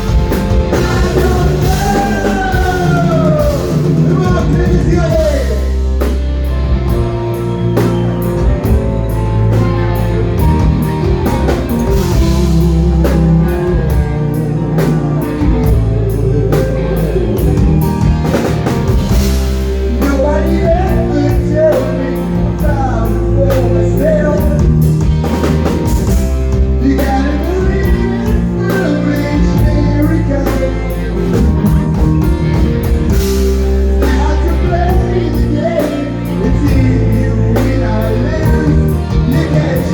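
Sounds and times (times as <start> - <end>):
lead vocal singing: 0.0 - 6.2, 6.8 - 39.9
live rock band playing: 0.0 - 39.9.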